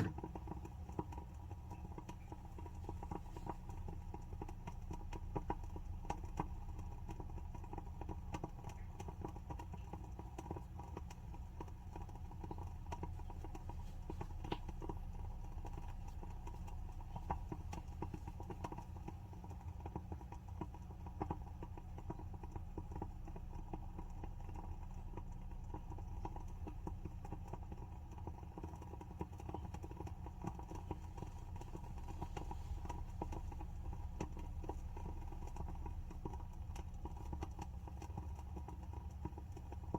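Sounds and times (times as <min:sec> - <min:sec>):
candle wick crackling: 0:00.0 - 0:39.9
low steady hum: 0:00.0 - 0:39.9.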